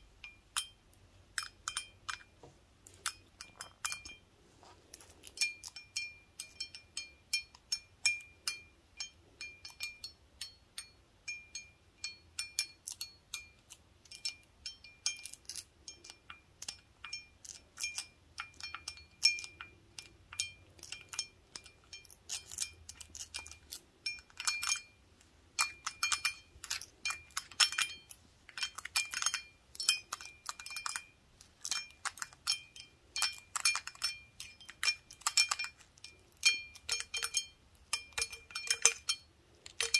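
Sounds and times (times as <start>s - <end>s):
toothpicks clinking on glass: 0.2s - 4.2s, 5.0s - 25.0s, 25.6s - 39.9s.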